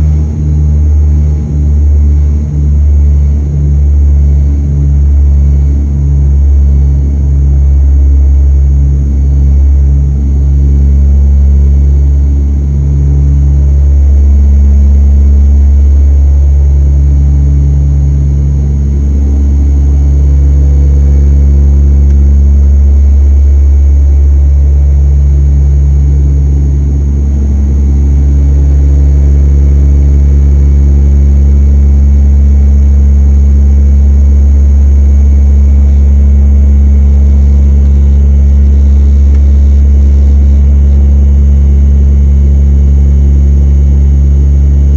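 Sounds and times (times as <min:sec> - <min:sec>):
propeller beating hum: 0:00.0 - 0:44.9
turboprop engines droning: 0:00.0 - 0:44.9.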